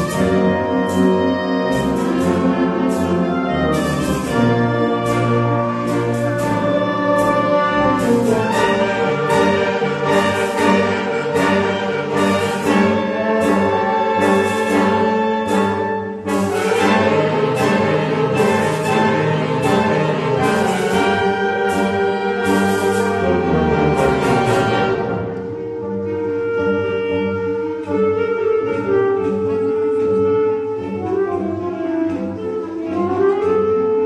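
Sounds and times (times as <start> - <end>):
wind band playing: 0.0 - 34.0.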